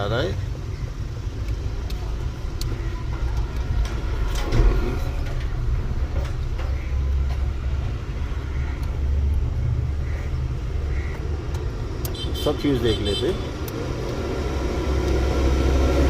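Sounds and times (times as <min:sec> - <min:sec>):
rumble of passing vehicles: 0:00.0 - 0:16.0.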